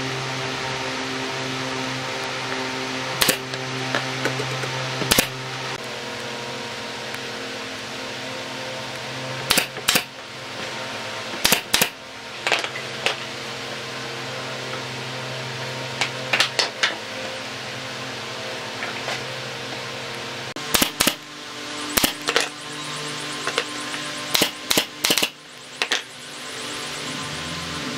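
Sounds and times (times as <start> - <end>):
steady hum: 0.0 - 27.9.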